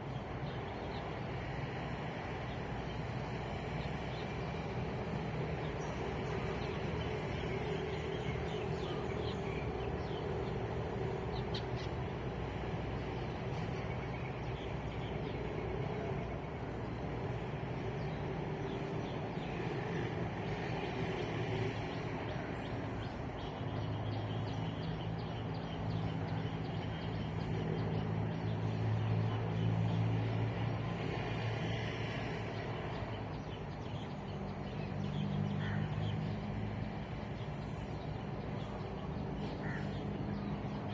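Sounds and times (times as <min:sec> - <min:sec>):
birds chirping: 0:00.0 - 0:31.2, 0:32.5 - 0:40.9
road traffic: 0:00.0 - 0:40.9
vehicle engine hum: 0:00.0 - 0:40.9.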